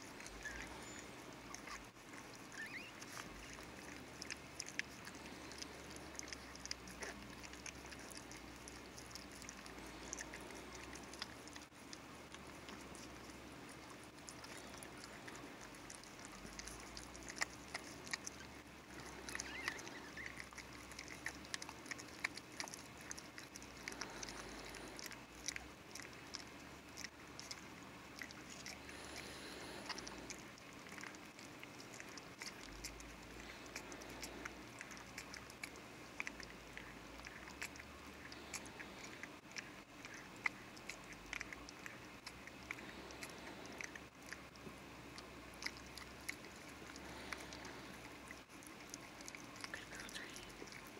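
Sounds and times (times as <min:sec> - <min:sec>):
dog licking wet smacking: 0:00.0 - 0:50.9.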